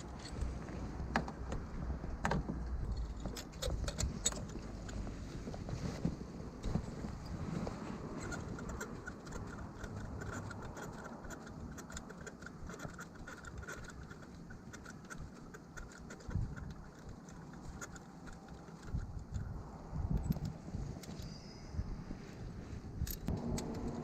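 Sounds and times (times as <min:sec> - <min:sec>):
light clicks and scratching: 0:00.0 - 0:21.5.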